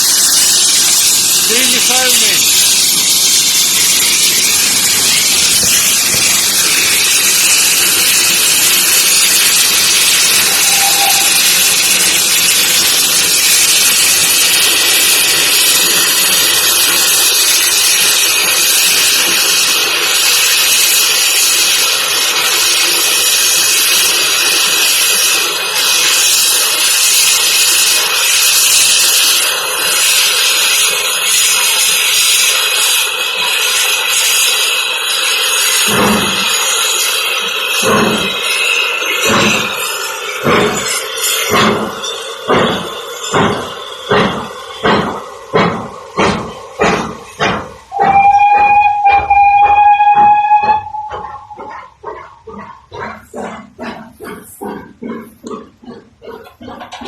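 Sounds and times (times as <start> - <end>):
steam locomotive venting steam: 0.0 - 57.0.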